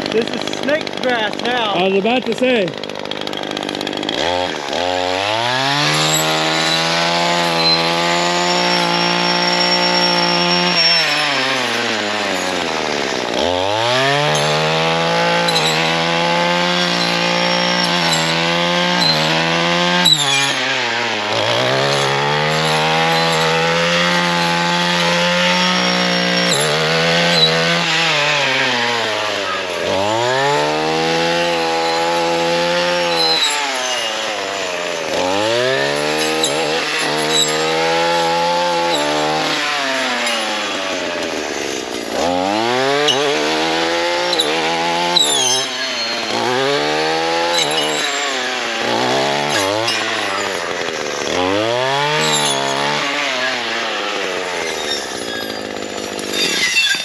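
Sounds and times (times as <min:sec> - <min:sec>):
string trimmer engine revving: 0:00.0 - 0:57.0.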